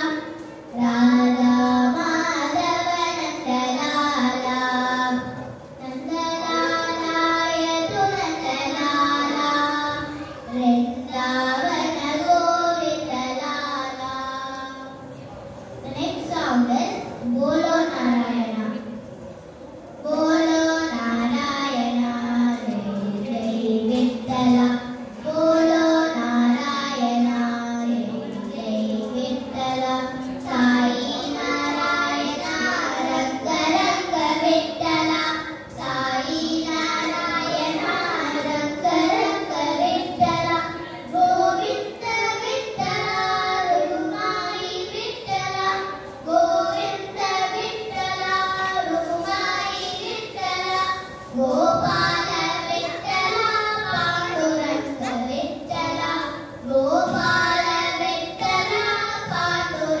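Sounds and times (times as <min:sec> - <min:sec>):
girls singing duet: 0:00.0 - 0:18.8, 0:20.0 - 1:00.0.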